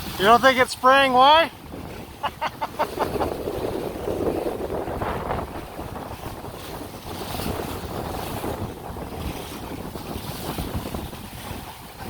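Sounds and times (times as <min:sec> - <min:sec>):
rough sea washing: 0:00.0 - 0:12.0
wind buffeting microphone: 0:00.0 - 0:12.0.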